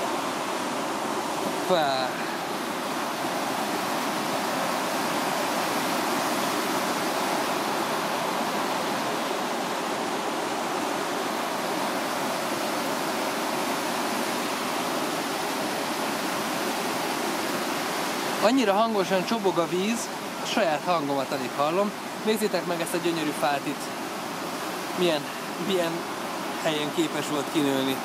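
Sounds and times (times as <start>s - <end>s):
water rushing over waterfall: 0.0s - 28.0s.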